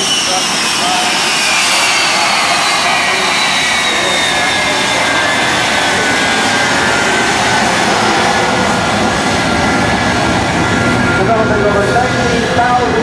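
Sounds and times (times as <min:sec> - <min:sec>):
high turbine whine: 0:00.0 - 0:13.0
jet engine rush: 0:00.0 - 0:13.0.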